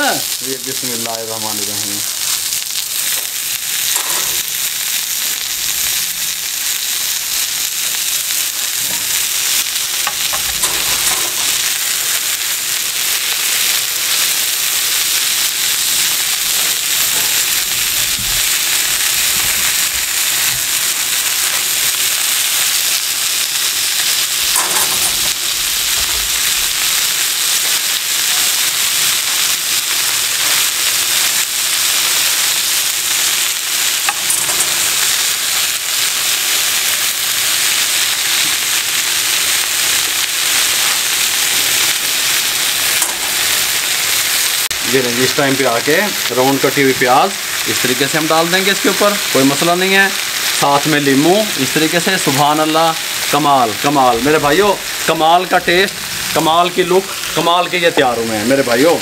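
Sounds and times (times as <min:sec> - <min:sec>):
food sizzling on iron plate: 0:00.0 - 0:59.0.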